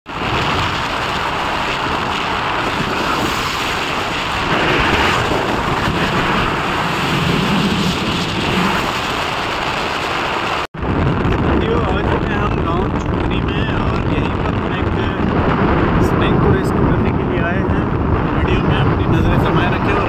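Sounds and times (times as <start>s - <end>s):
wind buffeting microphone: 0.1s - 20.0s.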